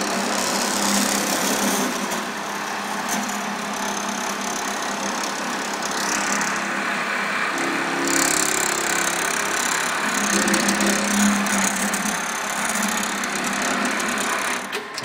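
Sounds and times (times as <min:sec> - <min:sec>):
sewing machine stitching: 0:00.0 - 0:02.4, 0:03.1 - 0:06.8, 0:07.6 - 0:15.0.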